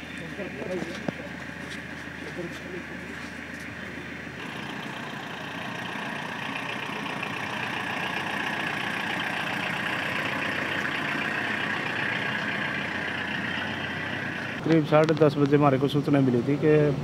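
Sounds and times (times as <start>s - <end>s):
van engine driving past: 0.0s - 15.0s.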